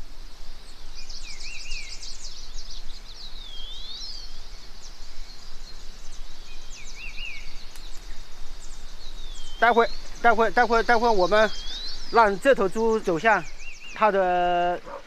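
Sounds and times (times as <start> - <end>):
birds chirping and calling: 0.0 - 15.0
steady high hiss: 0.0 - 15.0.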